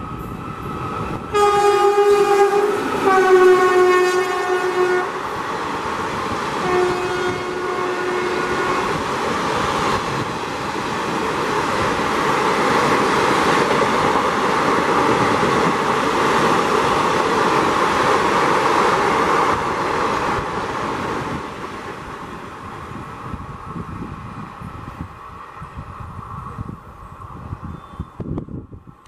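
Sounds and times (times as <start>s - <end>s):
train coaches rushing past: 0.0s - 28.4s.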